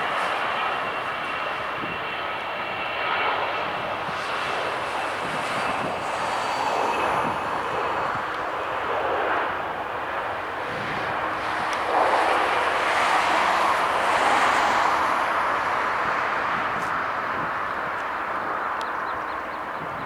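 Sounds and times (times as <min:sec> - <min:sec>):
jet airliner engines passing: 0:00.0 - 0:20.0.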